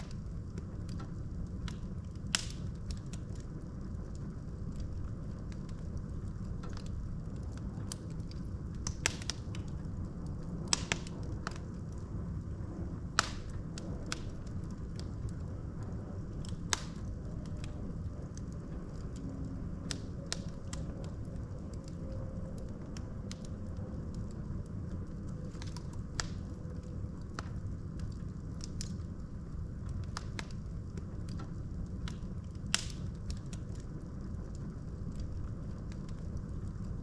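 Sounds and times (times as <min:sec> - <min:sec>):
logs crackling and popping: 0:00.0 - 0:37.0
low rumble of flames: 0:00.0 - 0:37.0.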